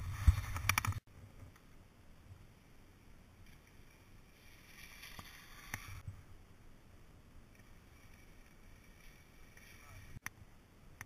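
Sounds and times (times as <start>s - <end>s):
faint muffled hiss: 0.0s - 11.0s.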